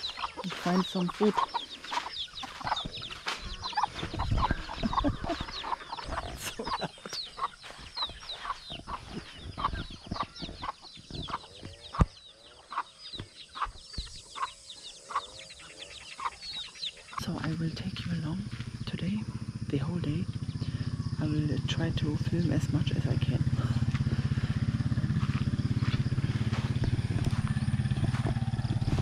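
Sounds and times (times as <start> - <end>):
chickens clucking: 0.0 - 19.2, 22.2 - 29.0
chicks peeping: 0.0 - 19.3, 23.8 - 29.0.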